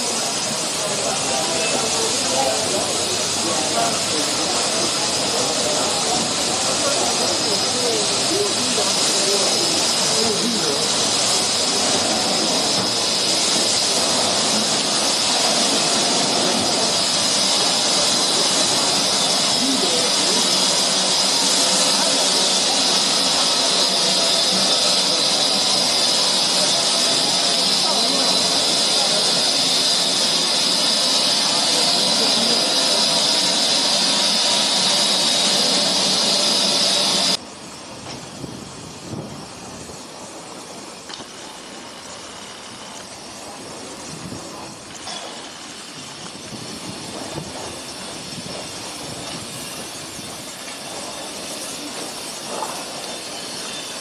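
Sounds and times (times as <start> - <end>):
loud hiss of escaping steam: 0.0 - 54.0.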